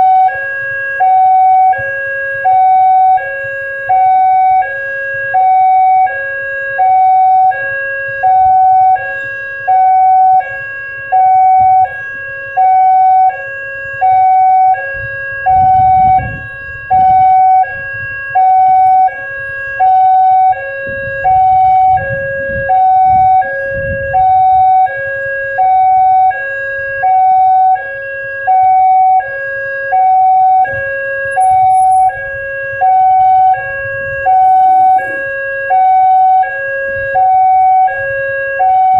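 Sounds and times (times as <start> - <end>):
level crossing two-tone siren: 0.0 - 38.9.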